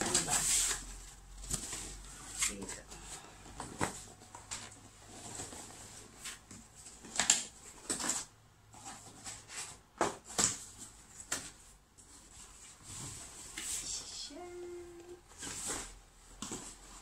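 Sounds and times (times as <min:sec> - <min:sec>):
cardboard flaps scraping and rustling: 0:00.0 - 0:14.0, 0:15.3 - 0:17.0.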